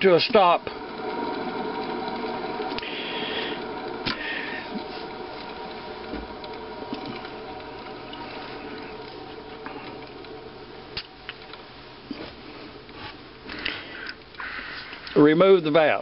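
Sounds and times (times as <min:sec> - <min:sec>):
grinding machine whirring down: 0:00.0 - 0:15.3.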